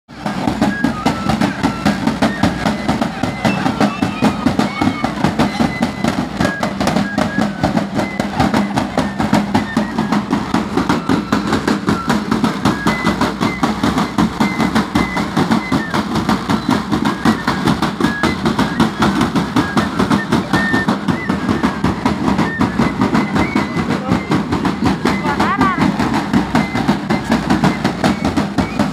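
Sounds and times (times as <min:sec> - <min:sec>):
marching drums beating: 0:00.1 - 0:28.9.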